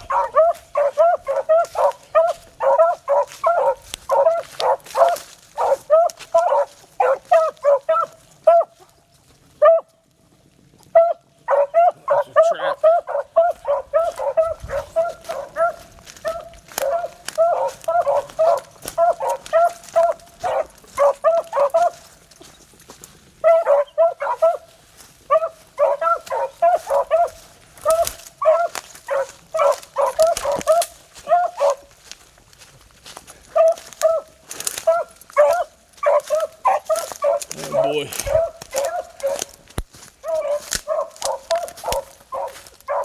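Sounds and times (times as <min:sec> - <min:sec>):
hounds baying: 0:00.0 - 0:10.1, 0:10.8 - 0:43.0.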